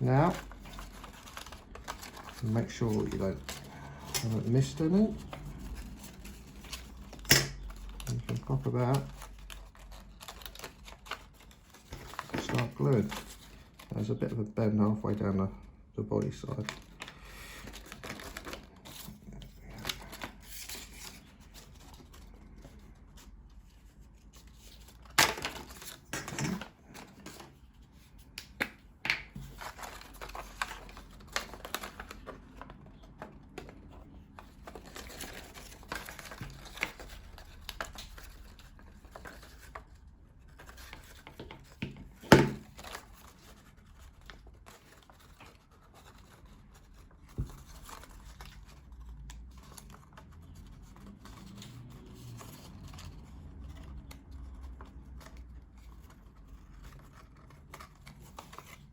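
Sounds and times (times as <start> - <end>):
paper rustling: 0.0 - 15.4, 16.2 - 58.9.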